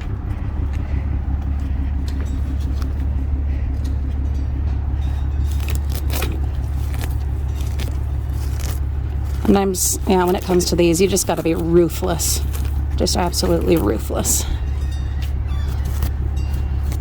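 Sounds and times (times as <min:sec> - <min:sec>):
low engine rumble: 0:00.0 - 0:17.0
short rustles: 0:00.4 - 0:17.0.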